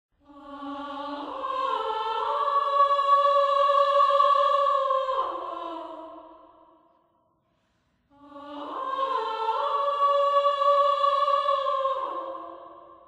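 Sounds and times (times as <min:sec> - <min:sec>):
a cappella vocal chord: 0:00.2 - 0:06.9, 0:08.1 - 0:13.0.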